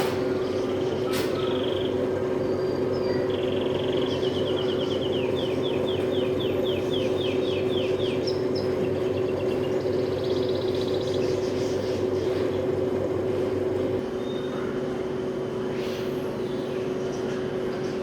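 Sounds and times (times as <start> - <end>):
cage birds chirping: 0.0 - 18.0
steady low hum: 0.0 - 18.0.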